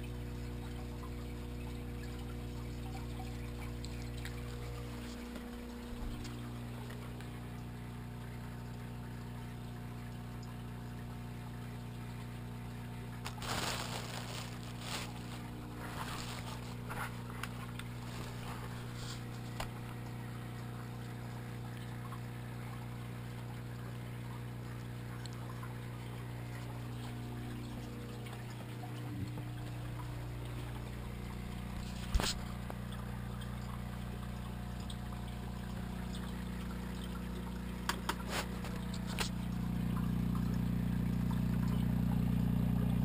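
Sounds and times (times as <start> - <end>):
electrical hum: 0.0 - 43.0
water trickling: 0.0 - 43.0.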